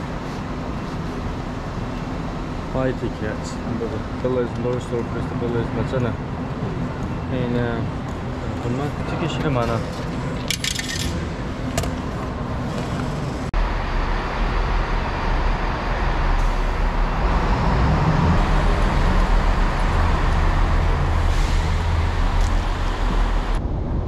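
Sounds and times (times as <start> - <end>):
vehicle in motion rumbling: 0.0 - 24.0.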